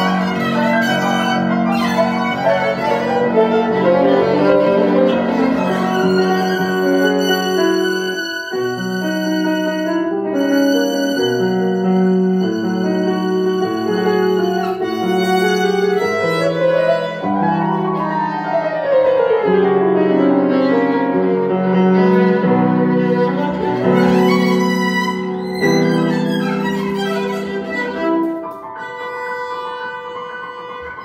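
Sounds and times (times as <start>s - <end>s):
bowed violin notes: 0.0s - 31.0s
piano chords: 0.0s - 31.0s.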